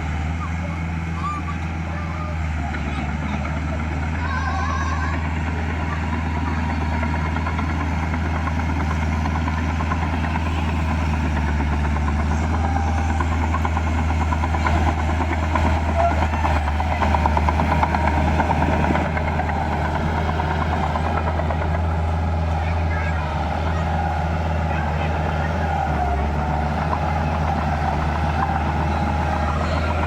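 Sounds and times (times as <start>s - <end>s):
heavy diesel engine droning: 0.0s - 30.0s.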